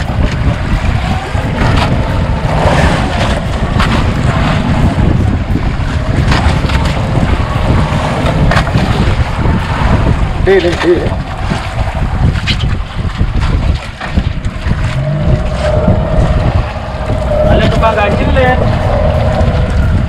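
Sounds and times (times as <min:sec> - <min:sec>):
water slapping boat hull: 0:00.0 - 0:20.0
wind buffeting microphone: 0:00.0 - 0:20.0.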